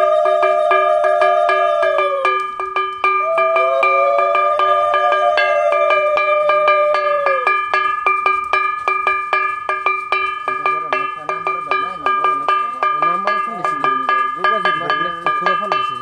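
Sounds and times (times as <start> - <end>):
voices: 0.0 - 8.0, 10.2 - 16.0
long held tone: 0.0 - 14.3
hand bell ringing: 0.0 - 16.0.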